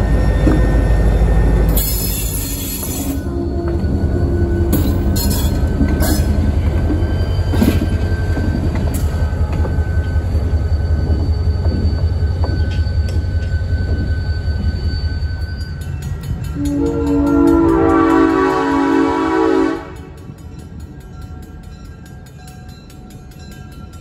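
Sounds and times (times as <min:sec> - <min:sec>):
diesel locomotive engine rumbling: 0:00.0 - 0:24.0.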